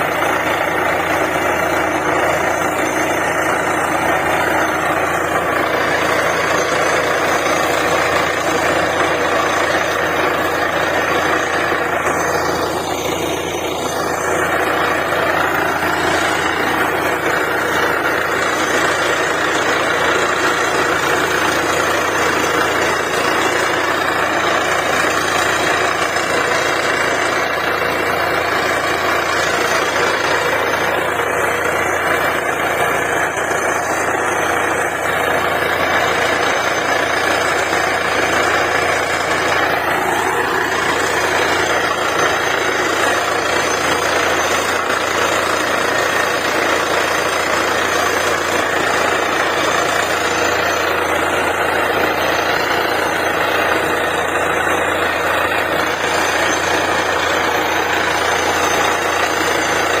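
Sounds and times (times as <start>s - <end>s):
drilling rig running: 0.0s - 60.0s.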